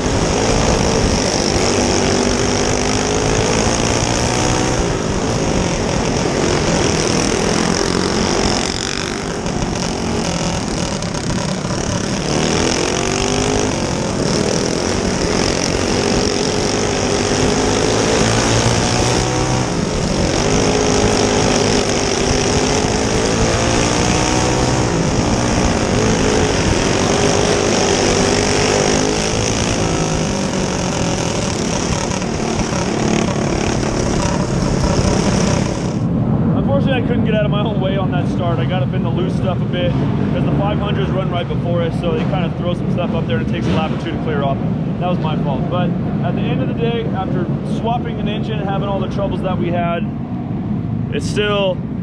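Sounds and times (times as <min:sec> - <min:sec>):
go-kart engine racing: 0:00.0 - 0:52.0.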